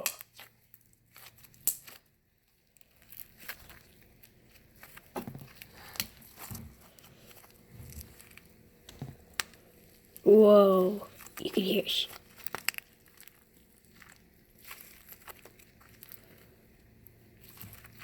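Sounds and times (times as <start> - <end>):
sticky pops and crackles: 0.0 - 10.3, 11.0 - 18.0
slime squished by hand: 0.0 - 18.0.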